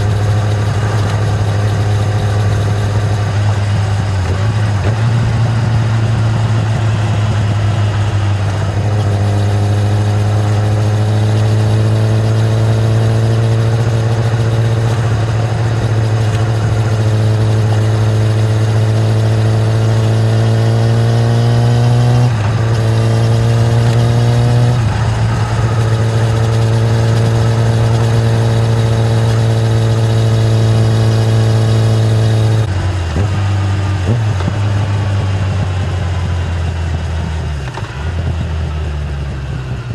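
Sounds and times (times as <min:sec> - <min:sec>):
motorcycle engine under load: 0:00.0 - 0:39.9.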